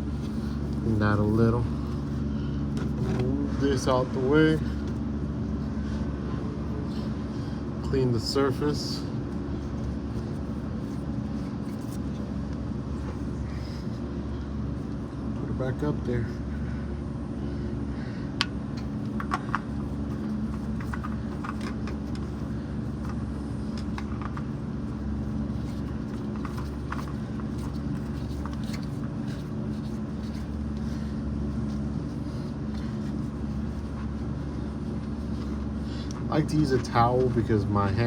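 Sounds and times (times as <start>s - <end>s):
electric fan humming: 0.0s - 38.0s.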